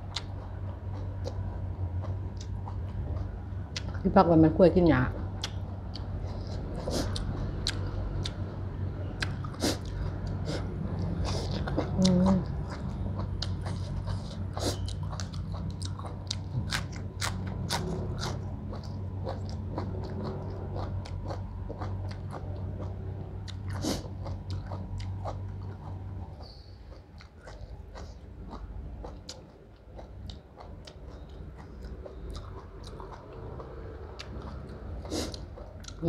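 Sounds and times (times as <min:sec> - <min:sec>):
chewing and crunching: 0:00.0 - 0:04.1, 0:05.3 - 0:08.5, 0:09.1 - 0:36.0.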